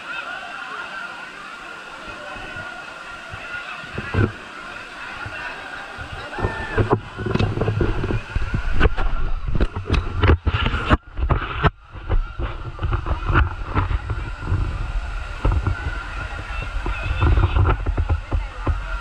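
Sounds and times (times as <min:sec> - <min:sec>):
steady wash of noise: 0:00.0 - 0:19.0
wind rumbling on microphone: 0:01.8 - 0:19.0.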